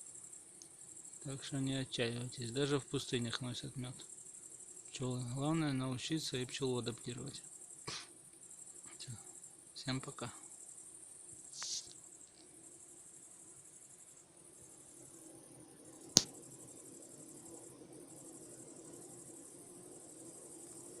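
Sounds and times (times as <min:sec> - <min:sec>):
crickets chirping: 0:00.0 - 0:21.0
low hum of bees: 0:00.0 - 0:21.0.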